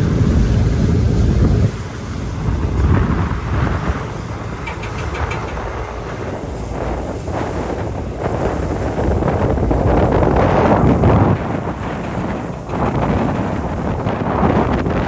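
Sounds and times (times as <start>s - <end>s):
low rumble of ship: 0.0s - 15.0s
wind buffeting microphone: 0.0s - 15.0s.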